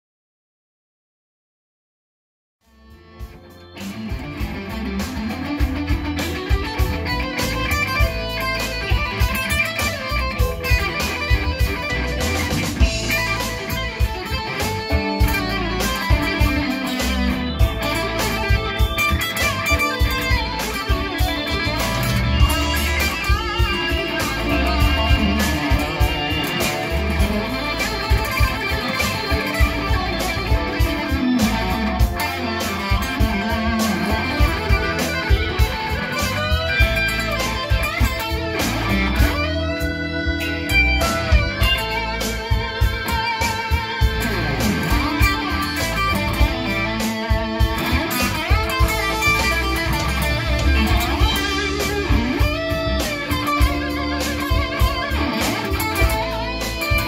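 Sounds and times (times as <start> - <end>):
electric guitar picking notes: 2.7 - 57.0.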